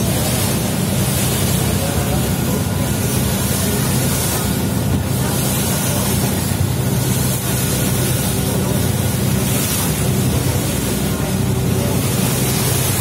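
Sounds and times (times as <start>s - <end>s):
boat engine droning: 0.0s - 13.0s
water rushing: 0.0s - 13.0s
wind: 0.0s - 13.0s.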